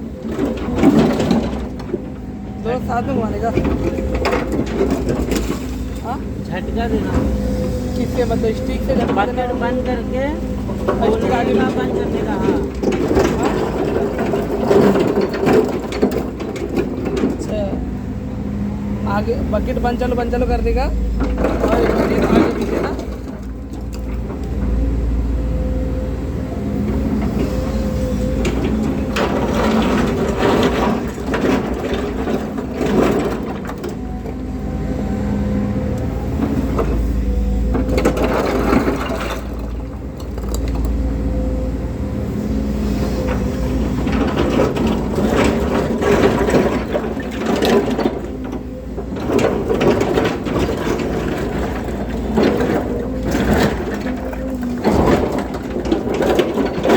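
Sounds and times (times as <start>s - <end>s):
excavator diesel engine under load: 0.0s - 56.9s.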